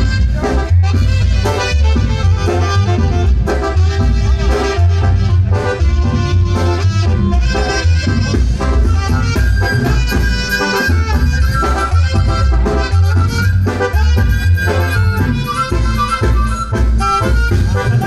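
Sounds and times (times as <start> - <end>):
live band playing dance music: 0.0 - 18.0
pulsing bass beat: 0.0 - 18.0.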